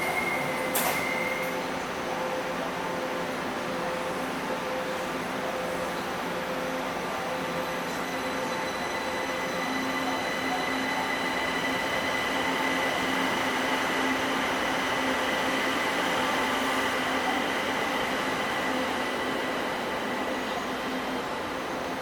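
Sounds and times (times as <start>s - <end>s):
train electrical hum and whine: 0.0s - 22.0s.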